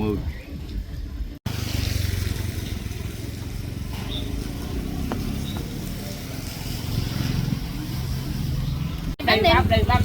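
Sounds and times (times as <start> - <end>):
motorbike engine rumbling: 0.0 - 10.0.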